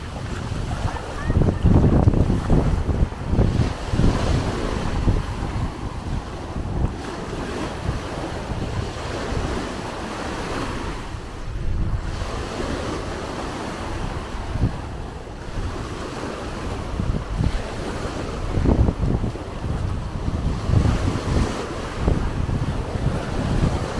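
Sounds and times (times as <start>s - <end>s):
waves breaking on sandy shore: 0.0s - 23.9s
wind gusting on microphone: 0.0s - 23.9s.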